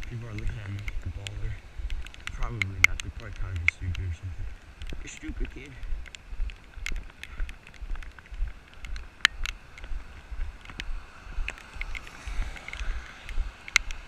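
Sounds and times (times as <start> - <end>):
raindrops ticking: 0.0 - 14.0
wind on microphone: 0.0 - 14.0.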